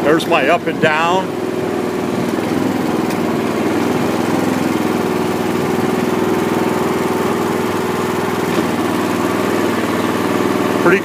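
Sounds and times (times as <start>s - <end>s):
hydraulic pump: 0.0s - 11.0s
trencher engine running: 0.0s - 11.0s.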